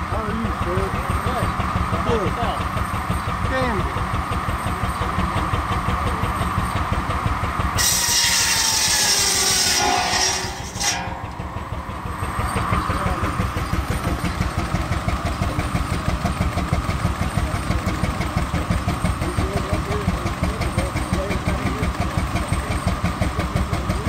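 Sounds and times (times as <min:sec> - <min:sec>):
steam engine exhaust beating: 0:00.0 - 0:24.0.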